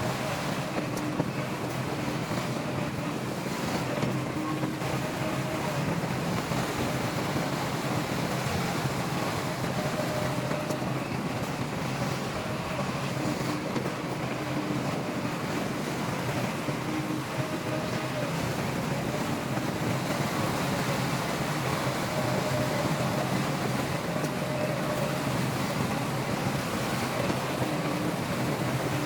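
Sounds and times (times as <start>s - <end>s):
diesel engine running: 0.0s - 29.0s
wind noise on microphone: 0.0s - 29.0s.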